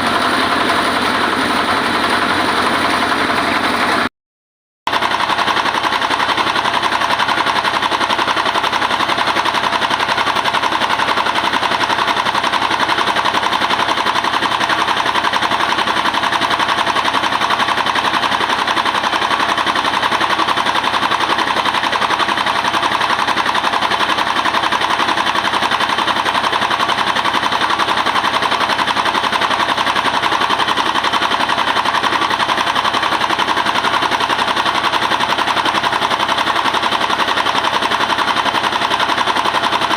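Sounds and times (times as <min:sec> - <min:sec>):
diesel engine and machinery clatter: 0:00.0 - 0:04.1, 0:04.9 - 0:39.9.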